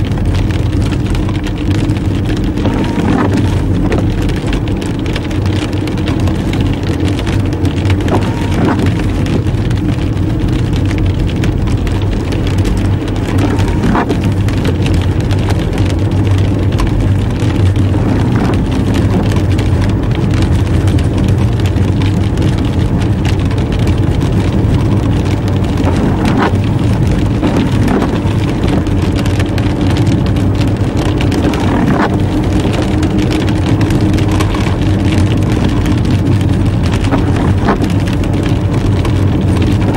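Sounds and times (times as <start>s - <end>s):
car engine and road noise: 0.0s - 39.9s
rain falling on car: 0.0s - 39.9s.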